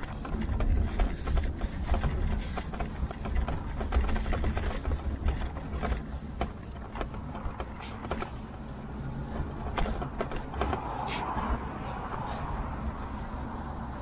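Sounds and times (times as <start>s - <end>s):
bike rolling over rough path: 0.0s - 12.3s
bike clicks and rattles: 0.0s - 14.0s.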